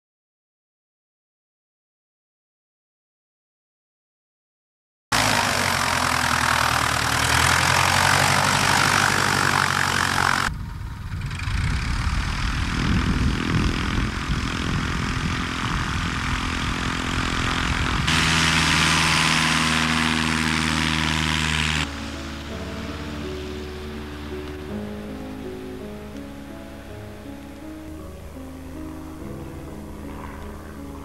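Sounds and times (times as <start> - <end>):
light aircraft engine and propeller: 5.1 - 31.0.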